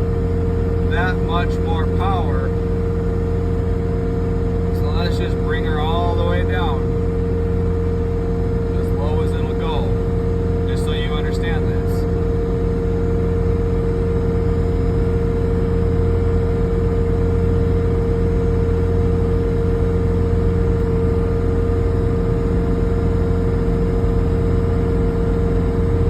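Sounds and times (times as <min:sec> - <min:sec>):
diesel engine running: 0:00.0 - 0:26.0
high whine: 0:00.0 - 0:26.0.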